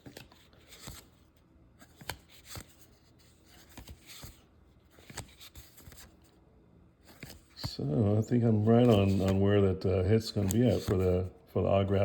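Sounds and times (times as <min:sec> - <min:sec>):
trading cards sliding: 0:00.0 - 0:06.4, 0:07.0 - 0:09.5, 0:10.2 - 0:11.3.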